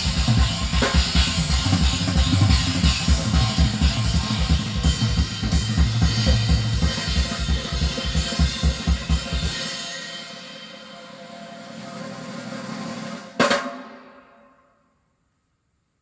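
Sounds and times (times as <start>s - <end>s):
music with fast drum beat: 0.0s - 14.3s.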